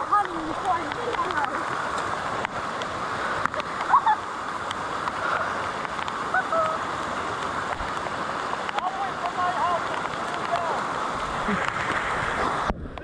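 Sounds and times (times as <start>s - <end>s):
floodwater rushing: 0.0s - 13.0s
raindrops ticking on camera: 0.0s - 13.0s.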